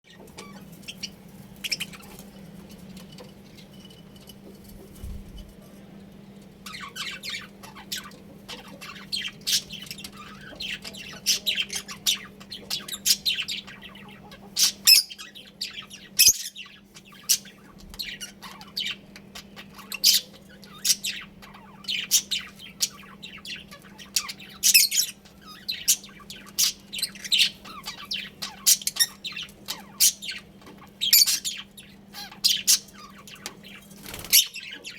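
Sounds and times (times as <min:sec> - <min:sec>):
budgerigars chirping and chattering: 0:00.1 - 0:05.2, 0:06.6 - 0:34.9.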